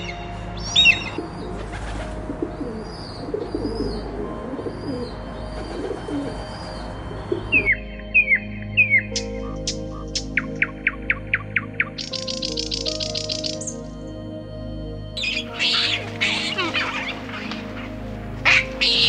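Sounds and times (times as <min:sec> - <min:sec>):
bird calls: 0:00.0 - 0:13.8, 0:15.2 - 0:19.0.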